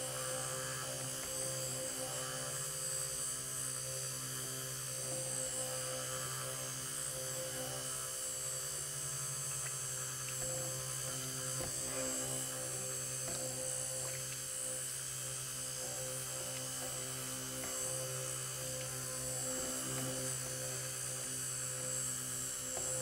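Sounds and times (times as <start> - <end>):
immersion blender humming: 0.0 - 23.0.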